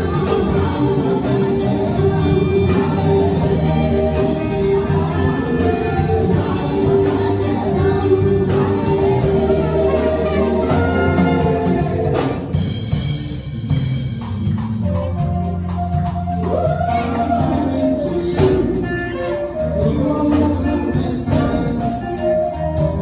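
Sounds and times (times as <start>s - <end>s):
people singing gospel: 0.0s - 13.9s, 16.4s - 23.0s
bass line: 0.0s - 23.0s
drum kit: 0.0s - 23.0s
keyboard: 0.0s - 23.0s.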